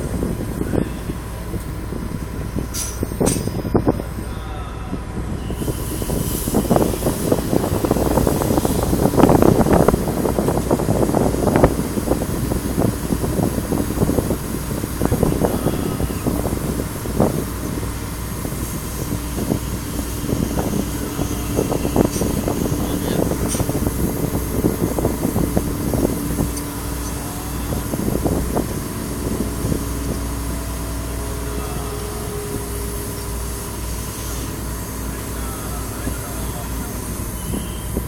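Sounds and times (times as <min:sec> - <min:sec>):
low held tone: 0:00.0 - 0:09.9, 0:15.0 - 0:38.0
machinery engine hum: 0:00.0 - 0:38.0.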